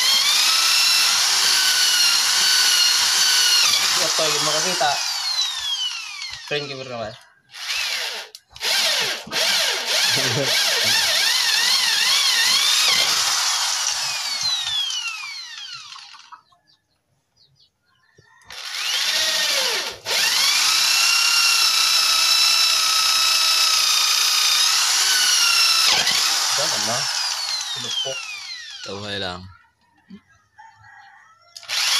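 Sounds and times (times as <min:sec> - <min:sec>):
electric drill boring into wood: 0:00.0 - 0:16.4, 0:18.4 - 0:29.2, 0:31.6 - 0:31.9.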